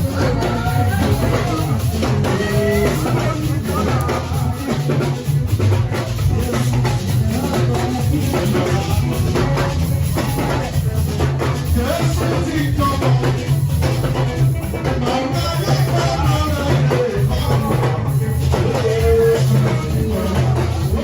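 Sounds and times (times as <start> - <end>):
bass line: 0.0 - 21.0
drum kit beat: 0.0 - 21.0
gospel band music: 0.0 - 21.0.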